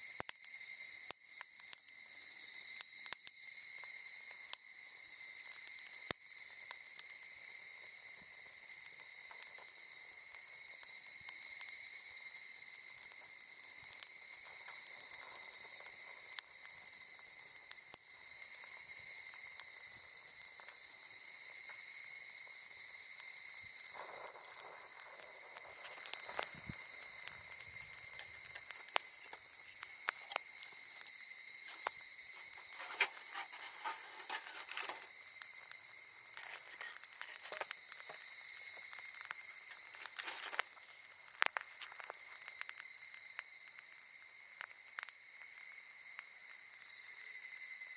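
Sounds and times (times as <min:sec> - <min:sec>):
insects trilling: 0:00.0 - 0:47.9
campfire crackling and popping: 0:05.2 - 0:47.9.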